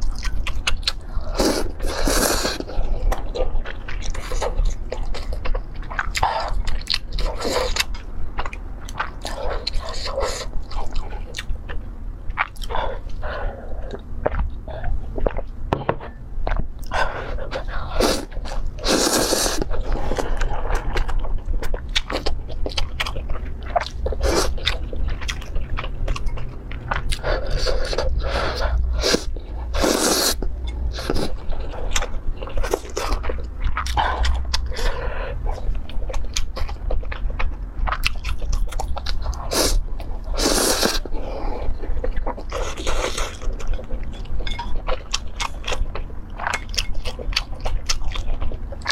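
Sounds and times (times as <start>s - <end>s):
low steady hum: 0.0s - 48.9s
person chewing crunchy food: 0.0s - 48.9s.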